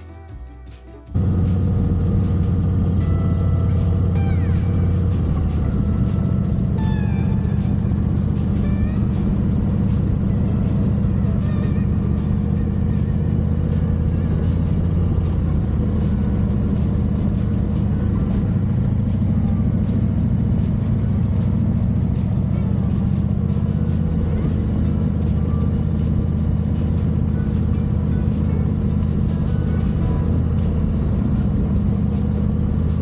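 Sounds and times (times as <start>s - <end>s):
motorcycle engine cruising: 1.1s - 33.0s.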